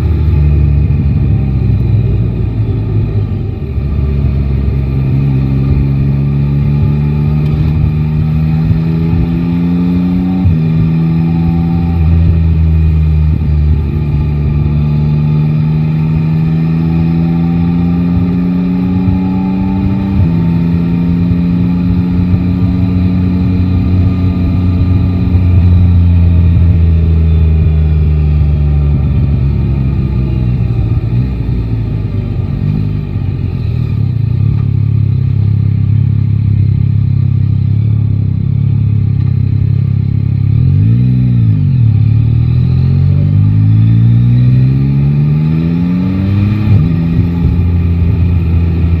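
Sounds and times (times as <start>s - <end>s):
motorcycle engine accelerating: 0.0s - 49.0s.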